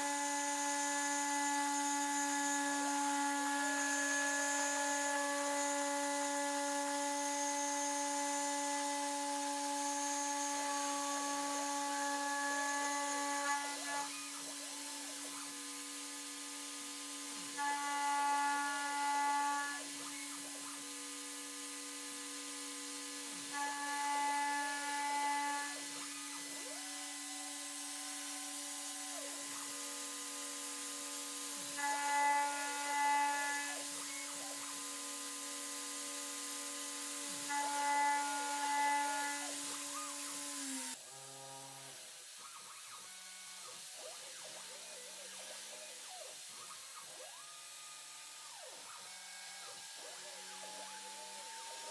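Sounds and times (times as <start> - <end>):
machine spindle whining: 0.0 - 41.1, 42.0 - 51.9
cutter machining metal: 0.0 - 51.9.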